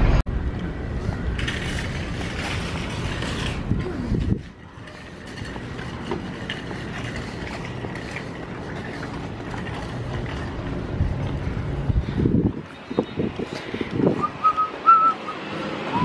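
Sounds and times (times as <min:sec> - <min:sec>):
low rumble of vehicle traffic: 0:00.0 - 0:16.0.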